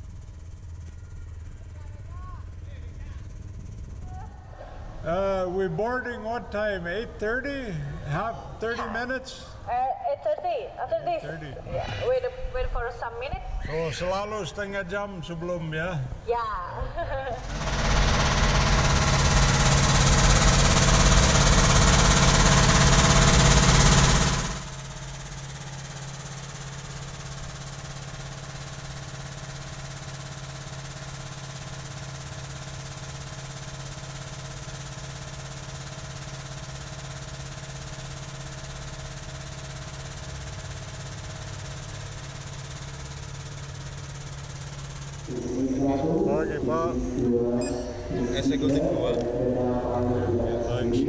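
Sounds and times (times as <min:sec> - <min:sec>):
air conditioner humming: 0:00.0 - 0:51.0.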